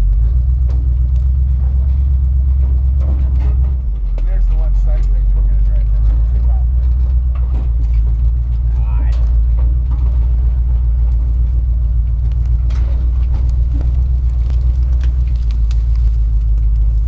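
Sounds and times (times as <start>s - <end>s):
truck engine droning: 0.0s - 17.0s
twigs cracking against truck: 0.0s - 17.0s.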